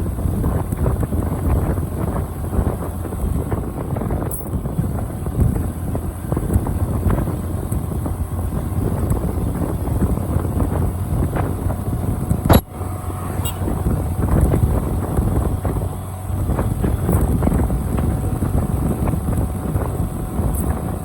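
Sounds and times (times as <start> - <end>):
motorcycle engine rumble: 0.0 - 21.0
wind buffeting microphone: 0.0 - 21.0.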